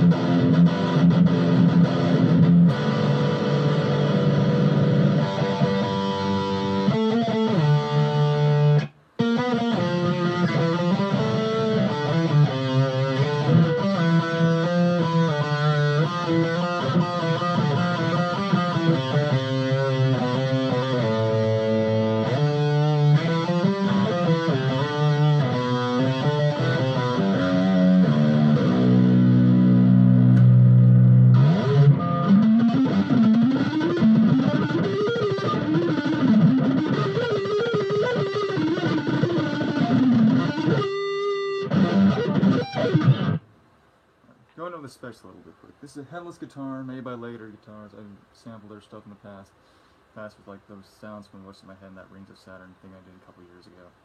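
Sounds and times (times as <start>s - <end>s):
distorted electric guitar riffs: 0.0s - 43.5s.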